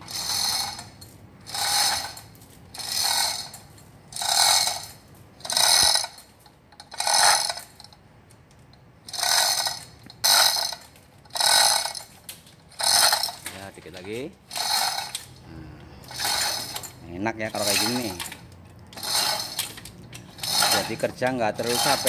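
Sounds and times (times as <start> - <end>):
chain hoist rattling and clicking: 0.0 - 8.0, 9.0 - 15.4, 16.0 - 22.0.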